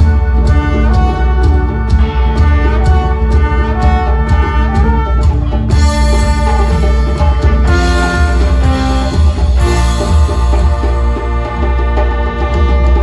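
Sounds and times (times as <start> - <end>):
brass instruments playing: 0.0 - 13.0
electric guitar: 0.0 - 13.0
electronic drum beat: 0.0 - 13.0.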